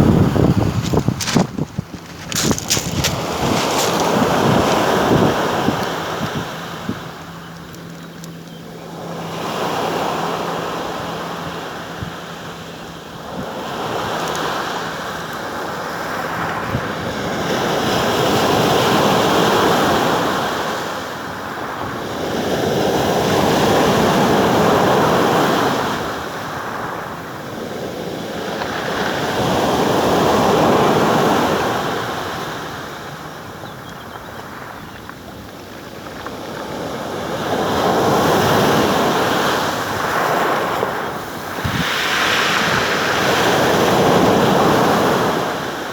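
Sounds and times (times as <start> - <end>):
sea surf breaking on shore: 0.0 - 7.4, 8.8 - 33.6, 34.2 - 45.9
wind on microphone: 0.0 - 9.4, 10.1 - 45.9.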